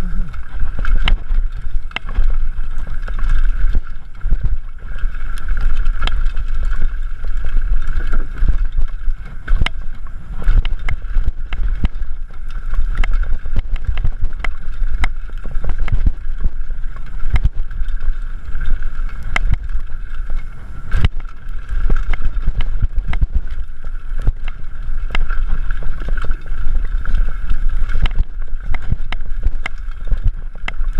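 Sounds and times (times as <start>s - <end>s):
bike rattles and knocks: 0.0s - 30.9s.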